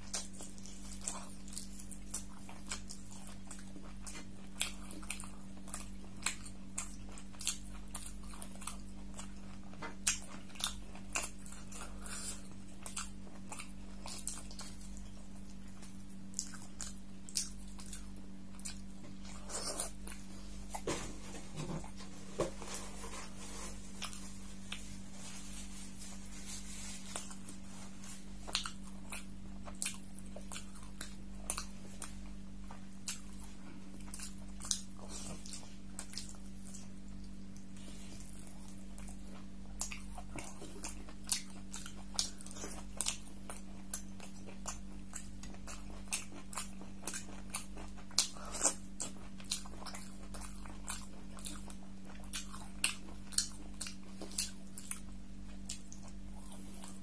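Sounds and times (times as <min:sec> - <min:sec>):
chewing and smacking: 0:00.0 - 0:57.0.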